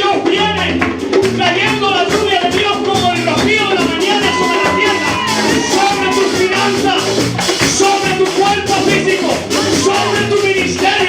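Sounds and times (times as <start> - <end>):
rhythmic beat: 0.0 - 11.0.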